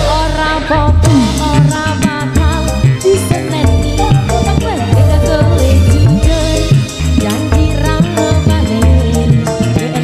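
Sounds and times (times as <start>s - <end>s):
street band music: 0.0s - 10.0s
woman singing into a microphone: 0.0s - 10.0s.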